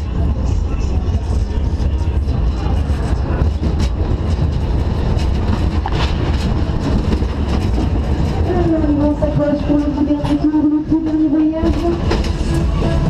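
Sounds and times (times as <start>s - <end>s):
roller coaster wheels rumbling on rails: 0.0s - 13.0s.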